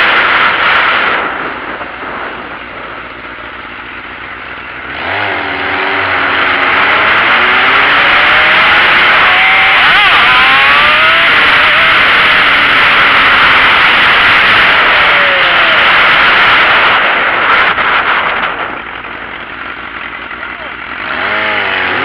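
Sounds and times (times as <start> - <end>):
loud steady rush: 0.0 - 22.0
motorcycle engine revving: 0.0 - 22.0.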